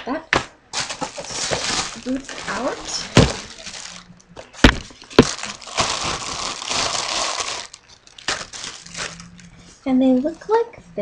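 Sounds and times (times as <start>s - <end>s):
packing paper rustling: 0.7s - 9.6s.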